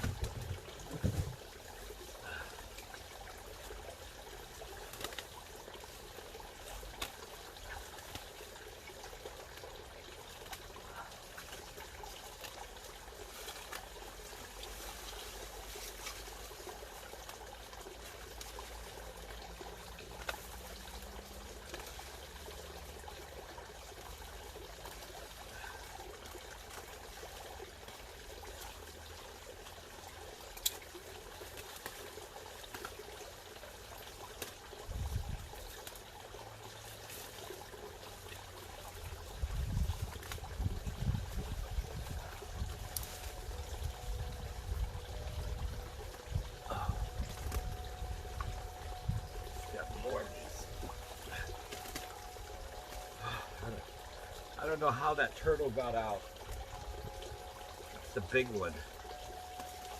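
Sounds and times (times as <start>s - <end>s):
water trickling and bubbling: 0.0s - 59.9s.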